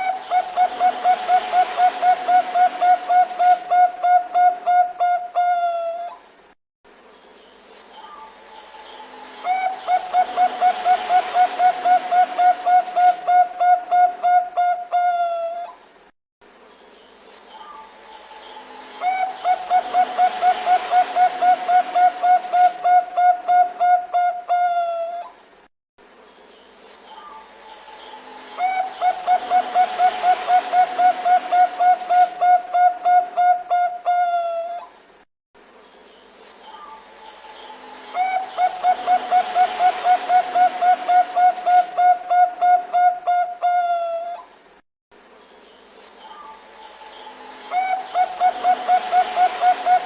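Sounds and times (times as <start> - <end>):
dove singing clipped notes: 0.0 - 6.1, 7.2 - 15.7, 16.8 - 25.2, 26.4 - 34.8, 35.9 - 44.4, 45.4 - 50.0.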